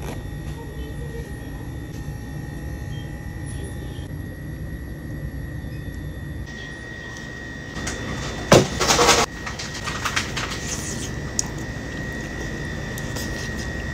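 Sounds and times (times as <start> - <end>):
steady high-pitched hum: 0.0 - 13.9.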